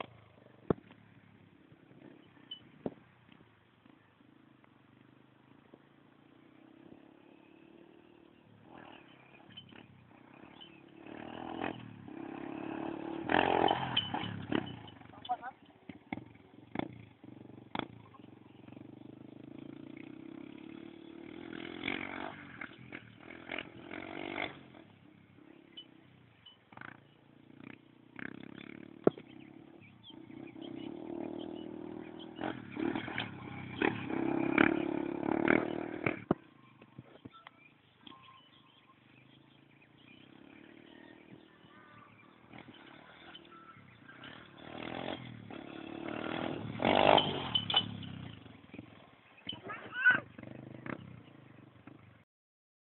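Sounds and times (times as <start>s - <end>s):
motorcycle engine revving: 0.0s - 52.2s.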